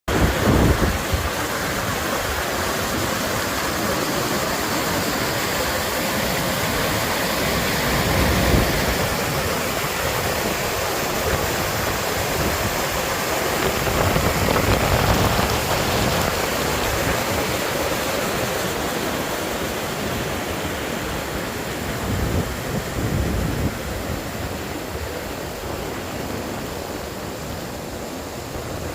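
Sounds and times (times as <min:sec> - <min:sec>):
rushing water hiss: 0:00.1 - 0:28.9.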